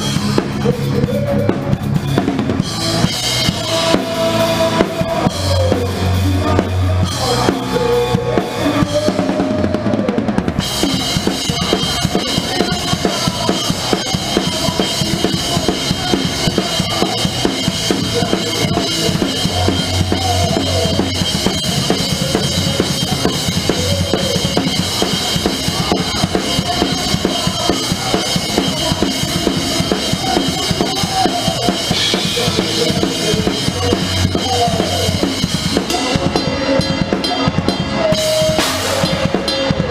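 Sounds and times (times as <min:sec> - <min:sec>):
drum kit played fast: 0:00.0 - 0:39.9
heavy metal band playing: 0:00.0 - 0:39.9.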